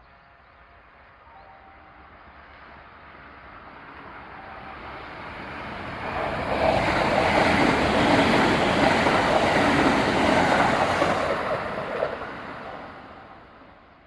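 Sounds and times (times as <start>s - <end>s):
electric train passing: 0.3s - 14.0s.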